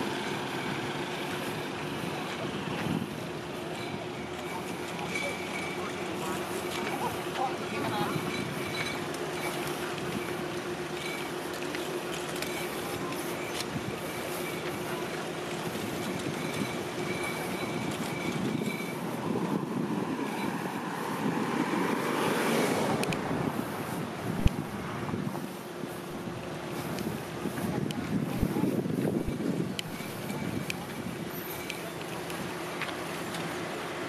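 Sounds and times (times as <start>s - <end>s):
traffic noise with low hum: 0.0s - 34.0s.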